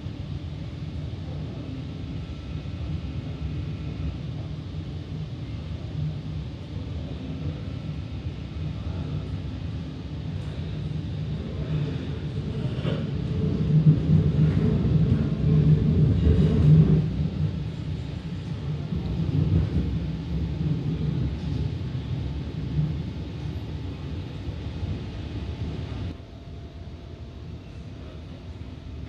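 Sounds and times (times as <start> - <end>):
electric train rumbling inside car: 0.0 - 29.0.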